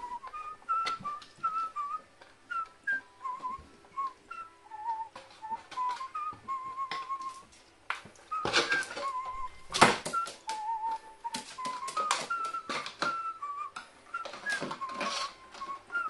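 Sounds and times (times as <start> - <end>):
whistled tune: 0.0 - 7.5, 8.2 - 16.0.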